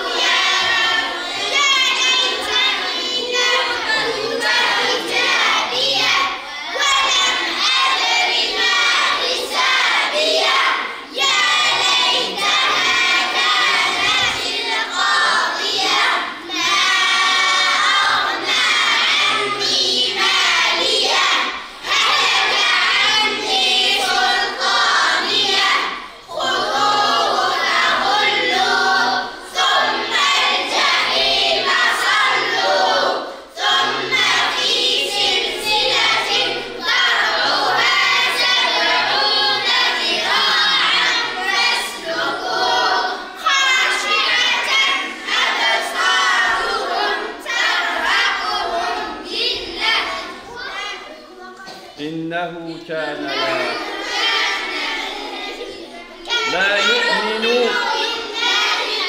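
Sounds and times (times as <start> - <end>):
children chanting in unison: 0.0 - 59.0.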